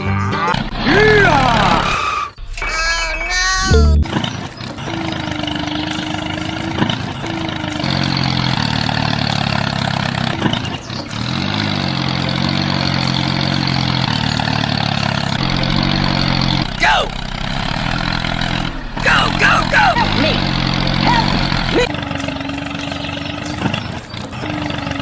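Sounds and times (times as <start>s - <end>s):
small tractor engine running: 0.4s - 25.0s.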